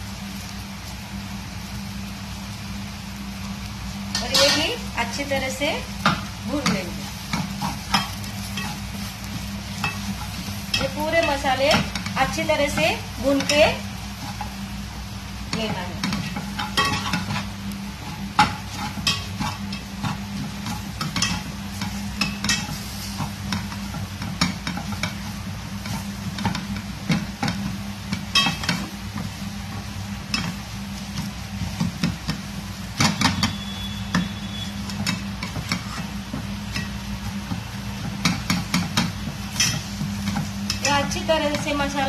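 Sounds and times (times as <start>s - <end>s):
faint sizzle: 0.0s - 42.0s
steady low hum: 0.0s - 42.0s.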